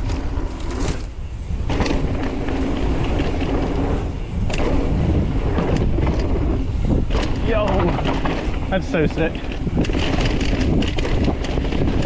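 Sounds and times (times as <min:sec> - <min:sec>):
bike chain and frame rattling: 0:00.0 - 0:12.0
tyres rumbling over dirt: 0:00.0 - 0:12.0
wind on microphone: 0:00.0 - 0:12.0.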